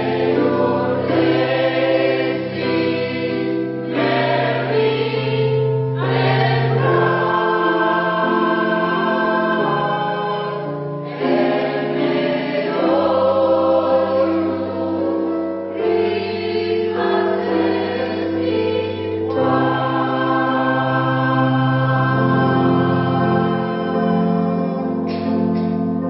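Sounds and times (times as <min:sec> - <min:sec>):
mixed choir singing a cappella: 0:00.0 - 0:25.8.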